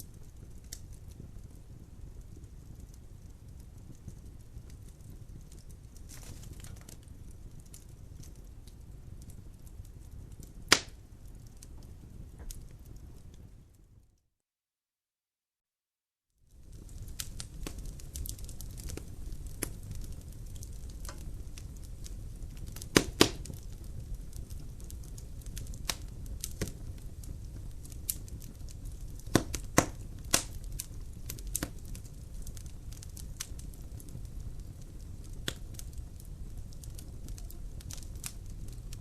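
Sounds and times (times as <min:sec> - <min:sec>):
logs crackling in fireplace: 0:00.0 - 0:14.0, 0:16.5 - 0:39.0.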